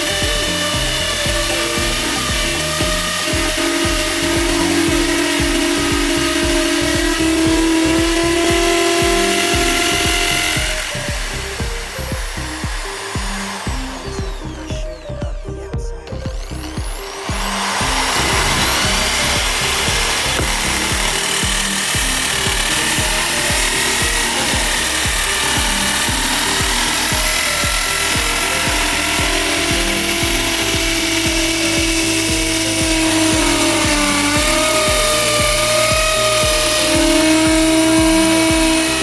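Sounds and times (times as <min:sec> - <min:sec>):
background music with a beat: 0:00.0 - 0:39.0
electric drill whining: 0:00.0 - 0:39.0.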